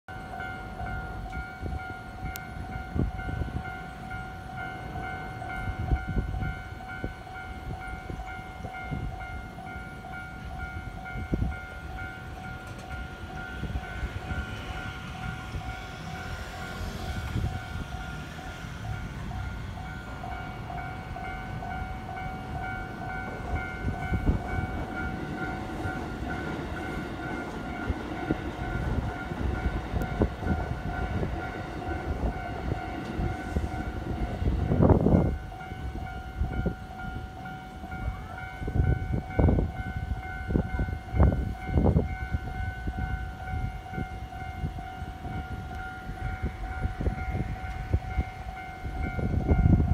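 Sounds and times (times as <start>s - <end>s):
electrical whine of trains: 0.1s - 49.9s.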